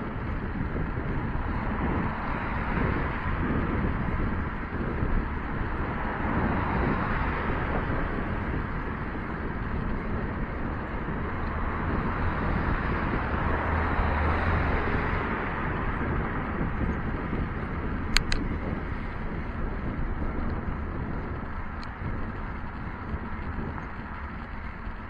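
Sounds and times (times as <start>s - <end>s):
cars driving past: 0.0s - 25.0s
wind rush on microphone: 0.0s - 25.0s.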